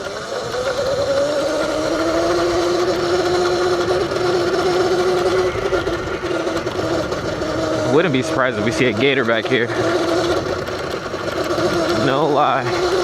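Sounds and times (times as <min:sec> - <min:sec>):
continuous rushing noise: 0:00.0 - 0:13.0
electric motor whine: 0:00.0 - 0:13.0.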